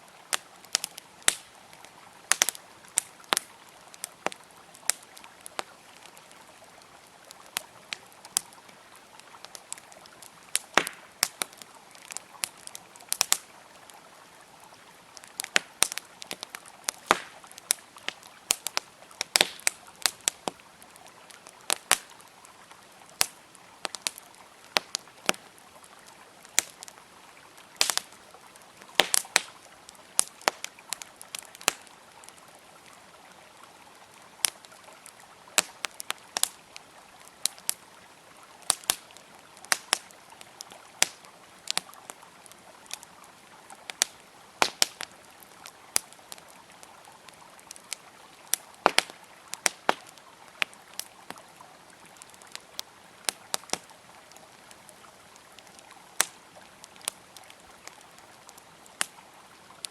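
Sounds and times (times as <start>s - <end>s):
campfire crackling and popping: 0.0s - 59.9s
flowing river water: 0.0s - 59.9s.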